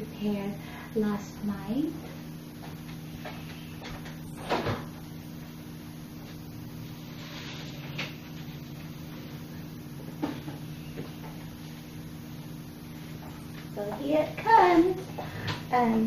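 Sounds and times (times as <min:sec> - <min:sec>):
refrigerator hum: 0:00.0 - 0:16.0.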